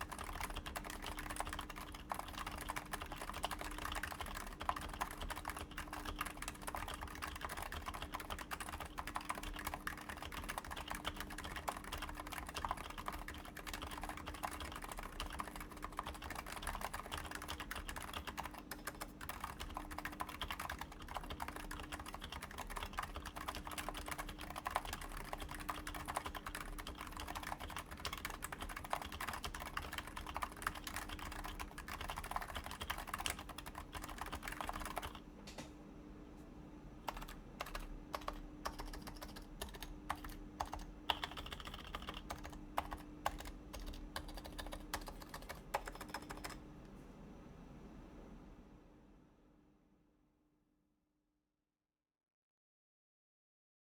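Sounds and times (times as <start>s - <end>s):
fast keyboard typing: 0.0s - 35.2s, 37.1s - 46.6s
faint steady hum: 0.0s - 50.3s.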